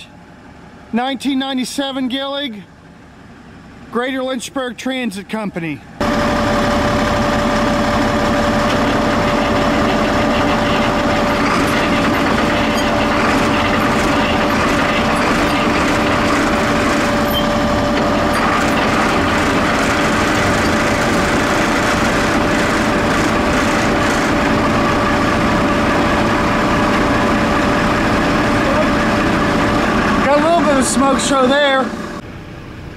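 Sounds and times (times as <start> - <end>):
bus diesel engine running: 0.0 - 32.9
constant whine: 0.0 - 32.9.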